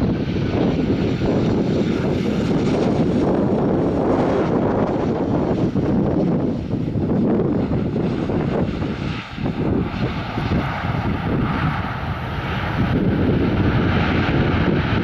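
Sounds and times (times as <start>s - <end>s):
jet engine roar: 0.0s - 15.0s
thin steady jet whine: 0.0s - 15.0s.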